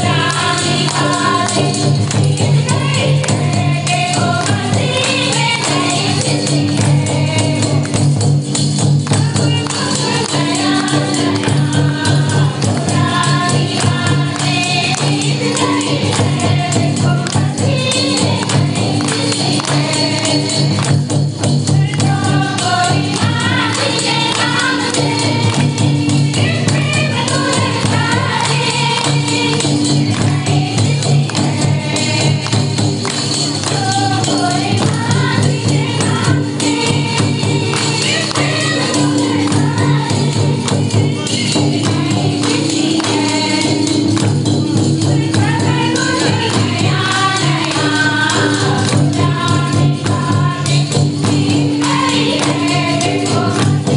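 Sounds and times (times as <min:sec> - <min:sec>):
hand drums beating: 0:00.0 - 0:53.9
jingling percussion: 0:00.0 - 0:53.9
women singing together: 0:00.0 - 0:53.9.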